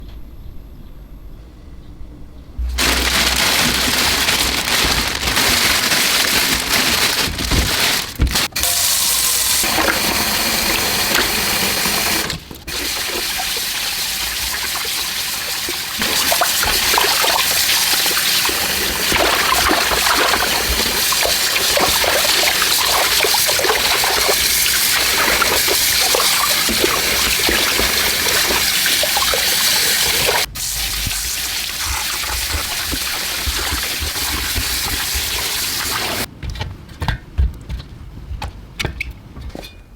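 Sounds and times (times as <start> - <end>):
tap water splashing into sink: 2.8 - 36.3.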